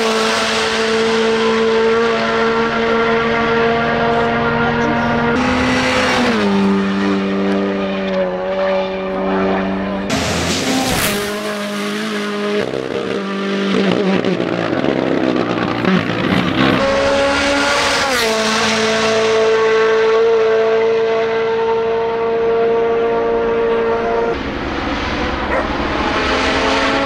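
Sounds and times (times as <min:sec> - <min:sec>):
rally car engines revving hard: 0:00.0 - 0:27.0.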